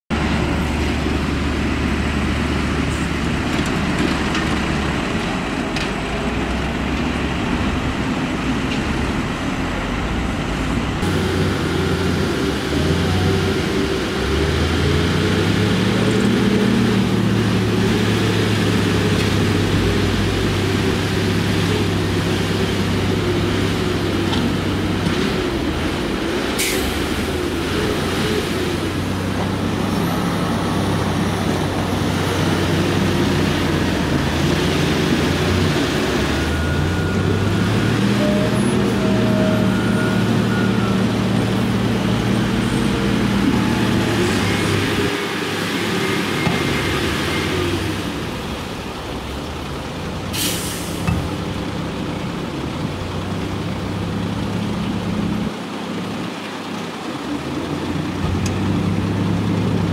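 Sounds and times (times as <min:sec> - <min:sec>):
engine revving: 0:00.1 - 0:49.0
diesel truck engines running: 0:00.1 - 0:59.9.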